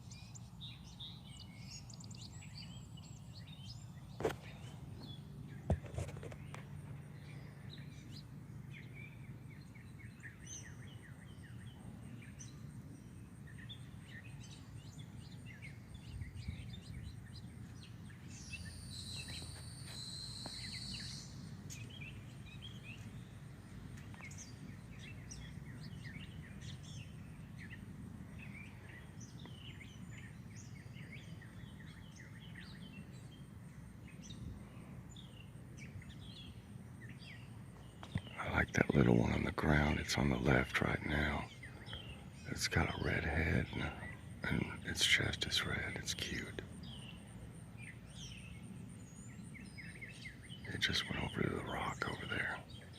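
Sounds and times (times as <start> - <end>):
bright bird song: 0.0 - 52.9
songbirds chirping: 0.0 - 52.9.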